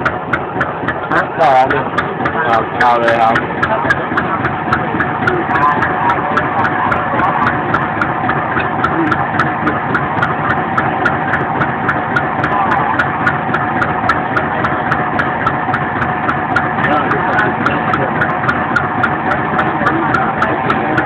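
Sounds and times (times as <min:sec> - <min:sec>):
diesel engine knocking: 0:00.0 - 0:21.0.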